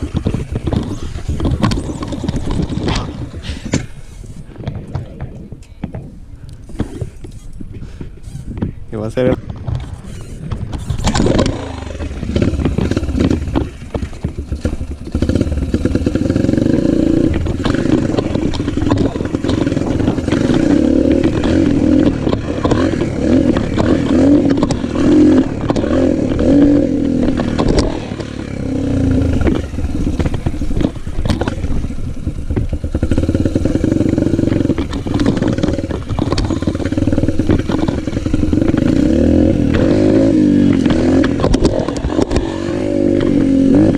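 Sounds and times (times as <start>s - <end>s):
motocross bike engine revving: 0.0s - 4.1s, 9.1s - 43.9s.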